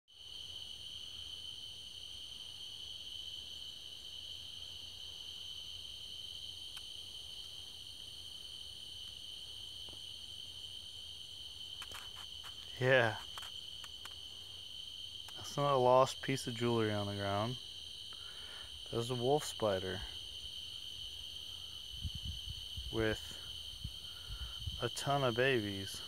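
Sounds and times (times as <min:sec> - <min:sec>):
crickets trilling: 0:00.1 - 0:26.0.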